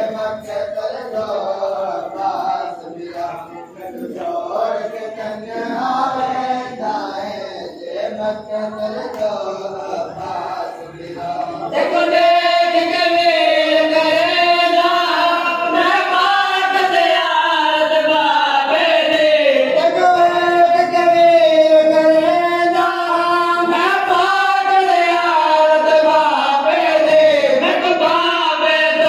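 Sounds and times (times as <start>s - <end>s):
men chanting a mourning lament: 0.0s - 29.0s.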